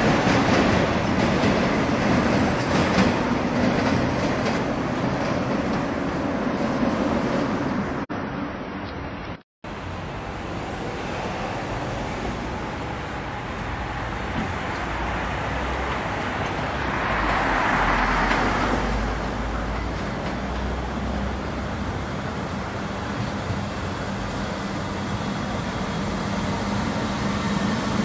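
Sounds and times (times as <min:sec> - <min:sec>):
electric train rumbling: 0:00.0 - 0:08.1, 0:09.7 - 0:28.0.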